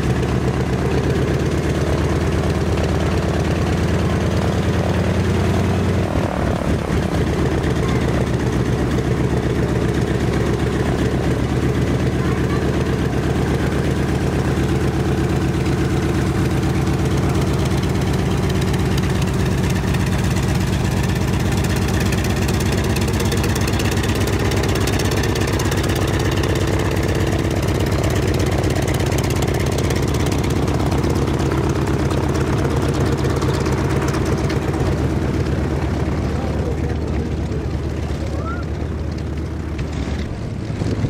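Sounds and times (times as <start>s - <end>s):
propeller plane engine running: 0.0s - 41.0s.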